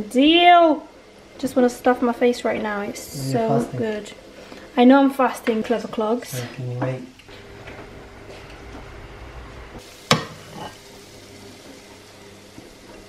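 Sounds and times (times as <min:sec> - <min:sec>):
food sizzling in frying pan: 0:00.1 - 0:13.0.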